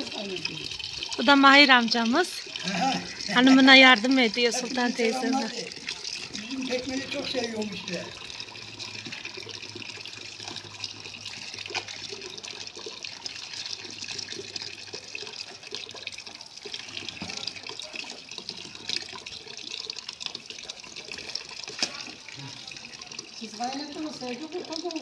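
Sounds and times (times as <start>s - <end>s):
juice trickling into a bucket: 0.0s - 25.0s.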